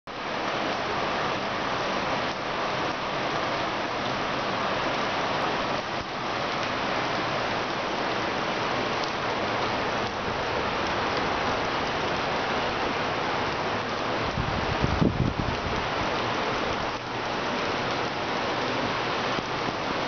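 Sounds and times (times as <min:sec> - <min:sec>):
heavy rain: 0:00.1 - 0:20.0.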